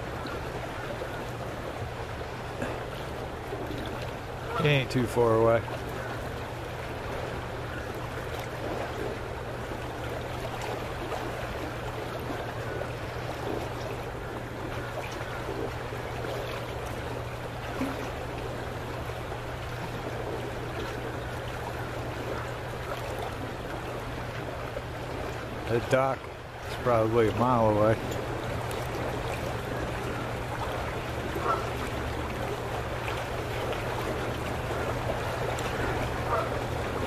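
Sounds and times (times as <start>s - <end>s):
steady low hum: 0.0s - 37.0s
waves lapping against pier: 0.0s - 37.0s.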